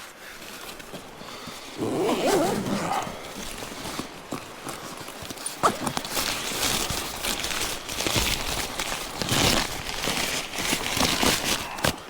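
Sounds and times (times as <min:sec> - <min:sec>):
material rustling and crinkling: 0:00.0 - 0:12.0
small clicks and crackles: 0:00.0 - 0:12.0.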